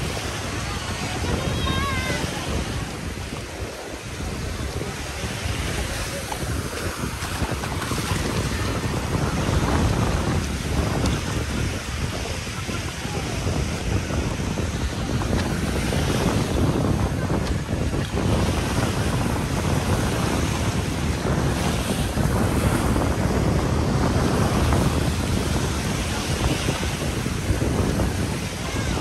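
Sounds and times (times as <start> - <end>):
sea waves washing on beach: 0.0 - 29.0
wind rumbling on microphone: 0.0 - 29.0.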